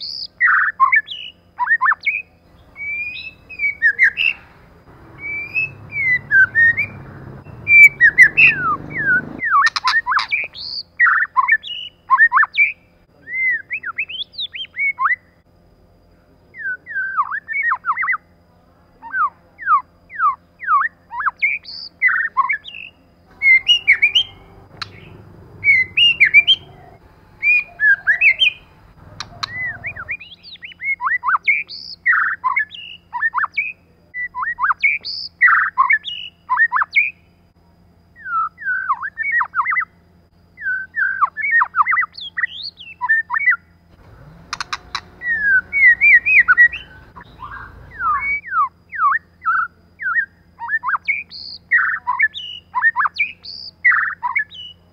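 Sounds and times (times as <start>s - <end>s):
bird singing whistled notes: 0.0s - 15.4s, 16.5s - 18.3s, 19.0s - 37.3s, 38.2s - 40.0s, 40.6s - 54.9s.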